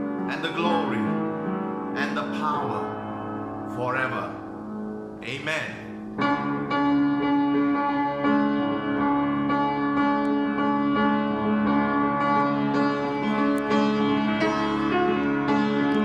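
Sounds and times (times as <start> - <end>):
instrumental music with held notes: 0.0 - 16.0.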